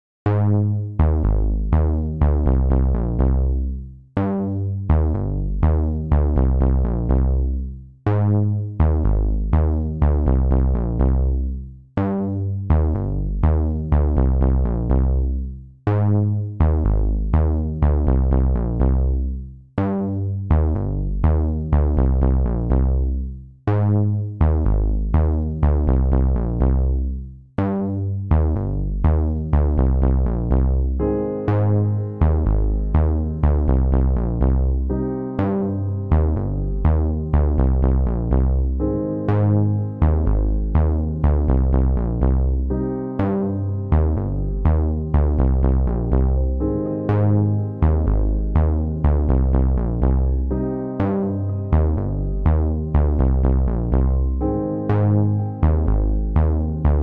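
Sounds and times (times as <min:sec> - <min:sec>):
electronic music with bass: 0:00.2 - 0:57.0.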